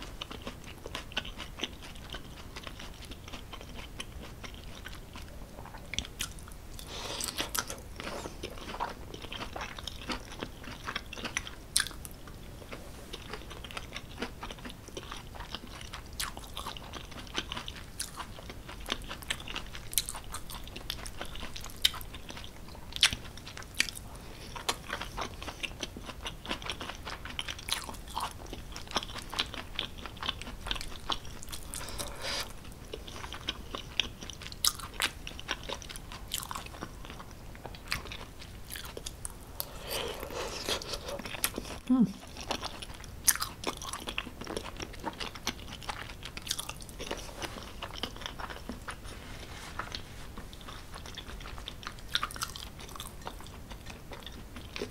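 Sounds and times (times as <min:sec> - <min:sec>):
close-up chewing of pasta: 0:00.0 - 0:54.9.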